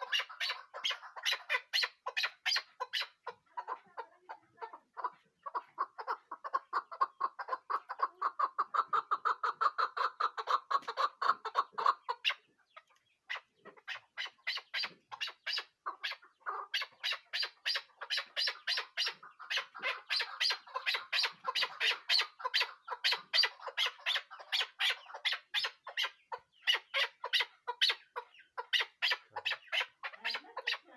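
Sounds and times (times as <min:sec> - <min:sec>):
partridge clucking call: 0:00.0 - 0:30.9.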